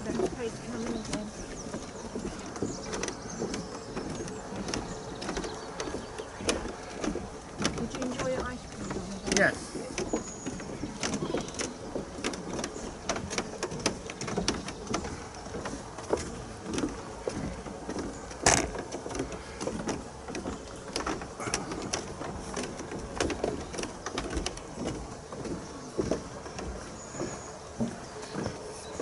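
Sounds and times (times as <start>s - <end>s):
footsteps on wooden planks: 0.0s - 29.0s.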